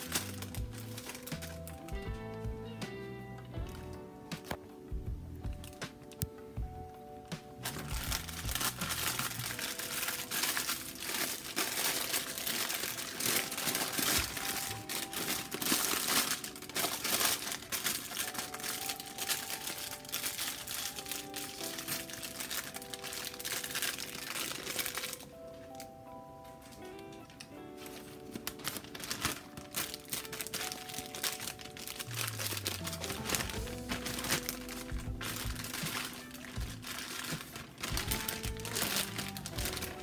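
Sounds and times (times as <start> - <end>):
plastic bag crinkling: 0.0 - 2.5, 7.6 - 40.0.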